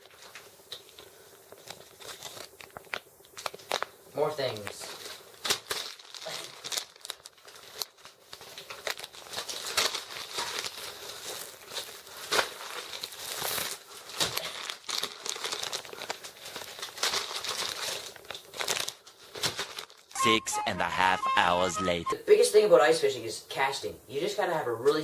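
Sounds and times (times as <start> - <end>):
plastic packets crinkling: 0.0 - 20.2.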